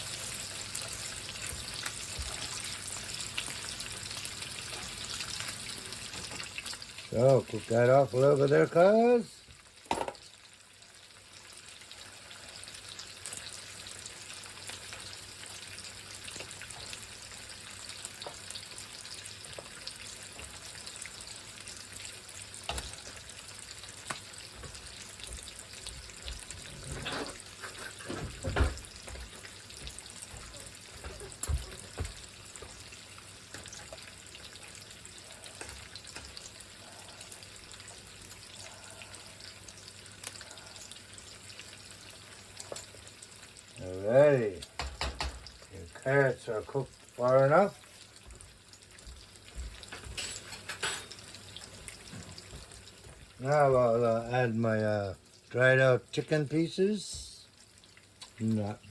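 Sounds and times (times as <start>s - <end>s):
food sizzling in a frying pan: 0.0s - 58.9s.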